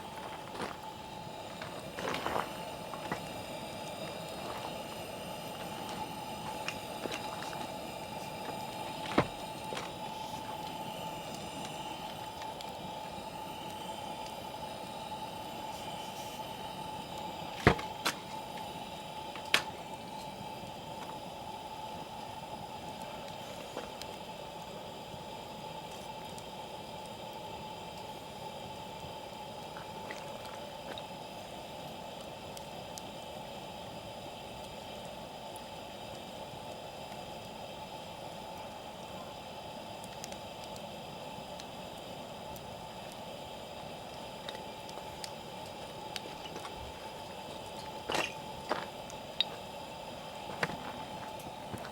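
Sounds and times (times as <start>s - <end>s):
campfire hissing: 0.0s - 51.9s
fire crackling pops: 0.0s - 51.9s.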